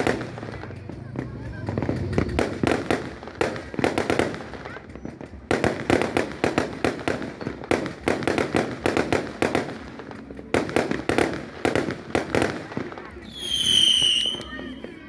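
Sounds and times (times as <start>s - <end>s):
fireworks banging and cracking: 0.0s - 15.0s.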